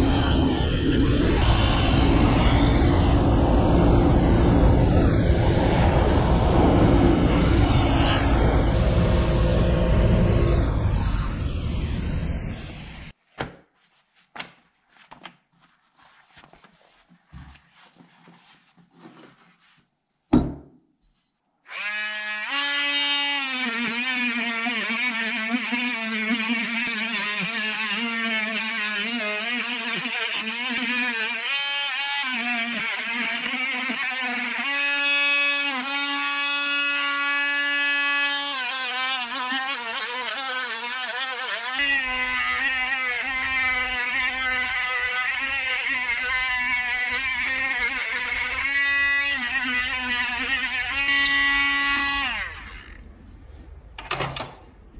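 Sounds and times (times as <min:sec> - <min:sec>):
rotary tool wire brush whining: 0:00.0 - 0:13.2, 0:21.7 - 0:53.2.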